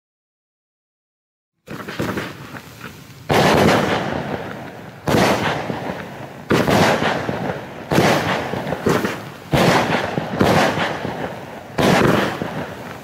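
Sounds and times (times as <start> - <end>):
fireworks bangs: 1.6 - 13.0.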